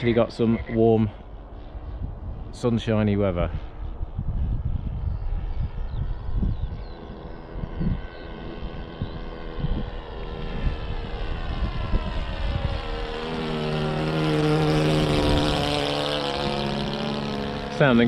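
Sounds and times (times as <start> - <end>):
model airplane engine running: 0.0 - 18.0
wind buffeting microphone: 0.0 - 18.0.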